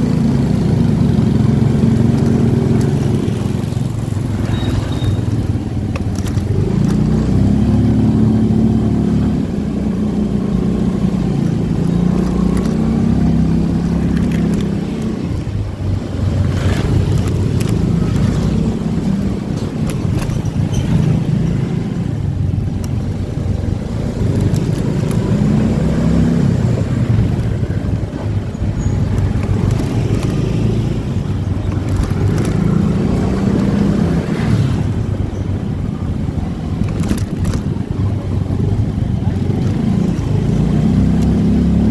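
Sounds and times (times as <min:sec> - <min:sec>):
motorcycle engine running: 0:00.0 - 0:41.9
road rumble: 0:00.0 - 0:41.9
wind: 0:00.0 - 0:41.9.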